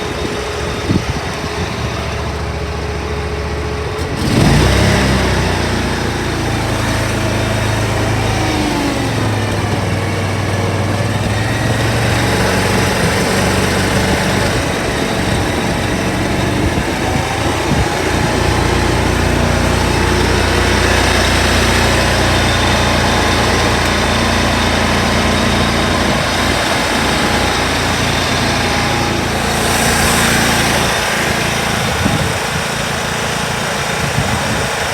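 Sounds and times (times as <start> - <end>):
mower engine running: 0.0 - 34.9.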